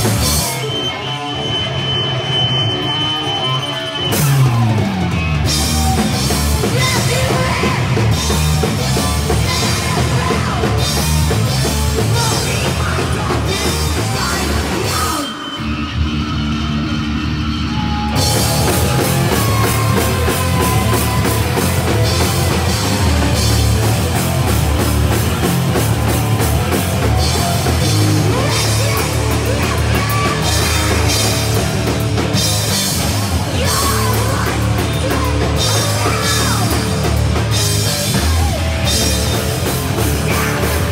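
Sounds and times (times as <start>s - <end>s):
drum kit with crashing cymbals: 0.0s - 3.3s, 4.0s - 15.4s, 18.1s - 40.9s
bass guitar: 0.0s - 40.9s
distorted electric guitar: 0.0s - 40.9s.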